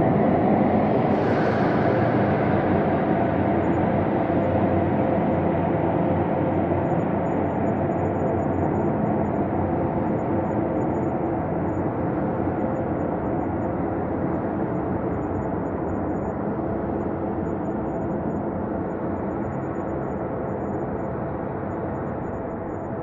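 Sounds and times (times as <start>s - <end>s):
synthesized ambient drone: 0.0s - 23.0s.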